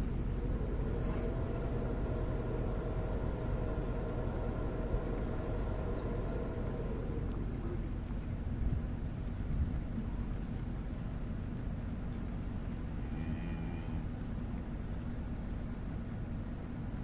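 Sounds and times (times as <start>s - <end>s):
distant engine droning: 0.0s - 17.0s
low rumble: 0.0s - 17.0s.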